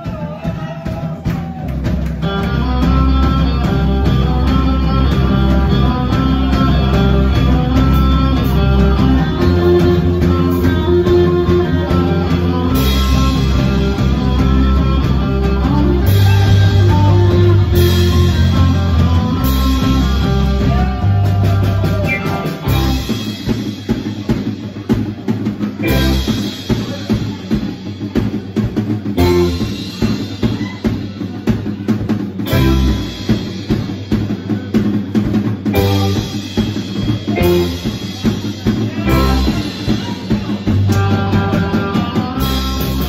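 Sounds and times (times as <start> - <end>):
drums: 0.0 - 43.0
electric guitar: 0.0 - 43.0
electric bass low notes: 1.5 - 43.0.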